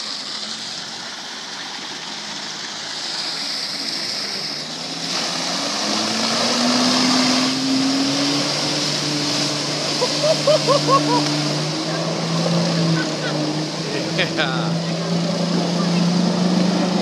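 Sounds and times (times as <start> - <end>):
water spray rushing: 0.0 - 17.0
jet-pack engine revving: 3.0 - 17.0.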